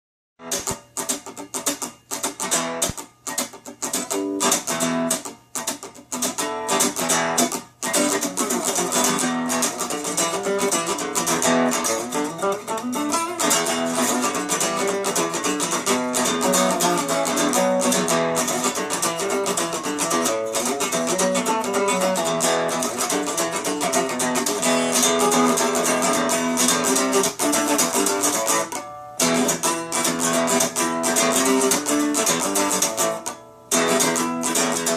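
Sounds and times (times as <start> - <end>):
guitar strumming: 0.4 - 34.9.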